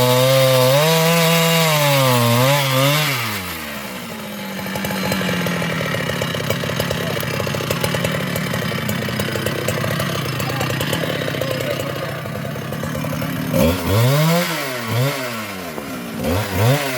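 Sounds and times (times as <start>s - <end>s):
chainsaw revving: 0.0s - 16.9s.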